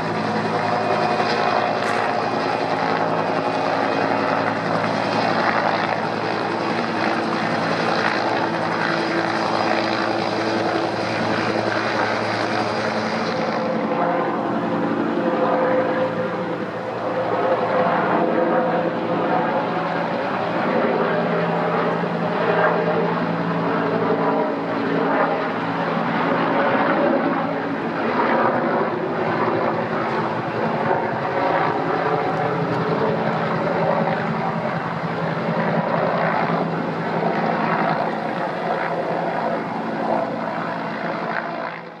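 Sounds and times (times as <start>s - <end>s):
helicopter flying overhead: 0.0s - 42.0s.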